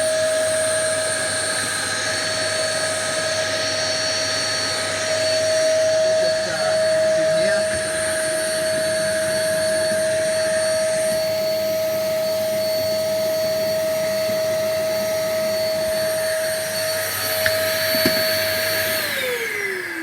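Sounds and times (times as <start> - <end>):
vacuum cleaner whining: 0.0 - 20.0.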